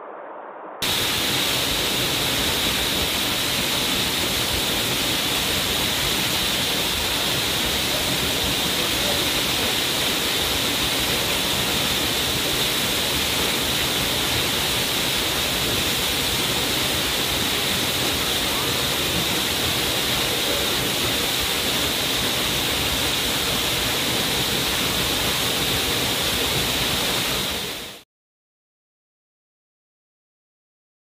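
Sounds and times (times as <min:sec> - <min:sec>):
waterfall rushing: 0:00.8 - 0:28.0.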